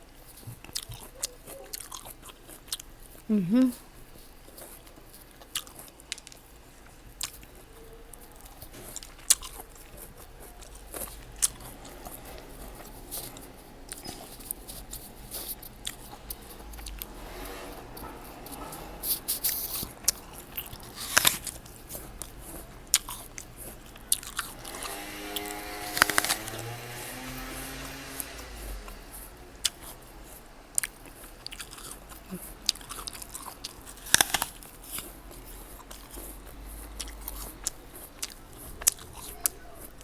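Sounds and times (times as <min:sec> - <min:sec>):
fruit crunching: 0:00.0 - 0:40.0
wet chewing: 0:00.0 - 0:40.0.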